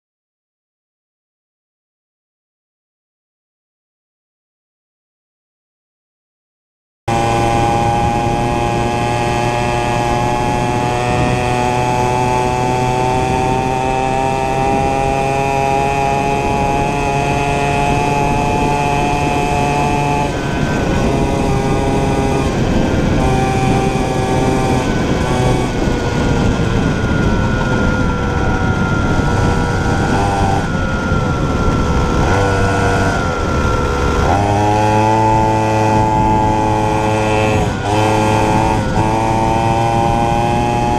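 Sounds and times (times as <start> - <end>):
two-stroke engine revving: 7.1 - 40.9.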